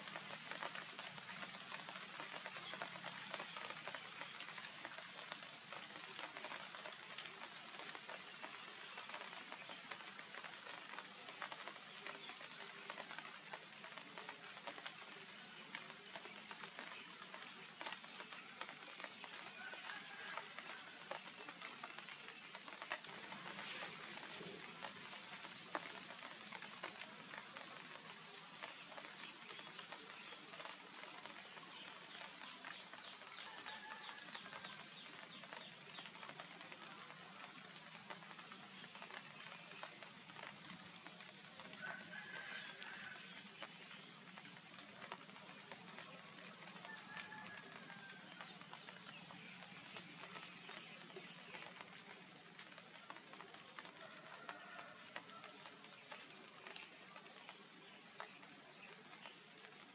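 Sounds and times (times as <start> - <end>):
faint crackling hiss: 0.0 - 59.9.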